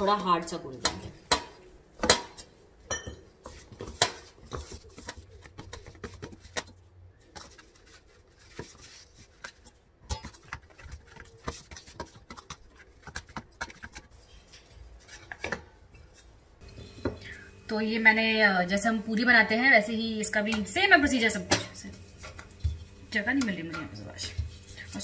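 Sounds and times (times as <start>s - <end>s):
fingers kneading dough in metal bowl: 0.0s - 17.2s, 18.0s - 25.0s.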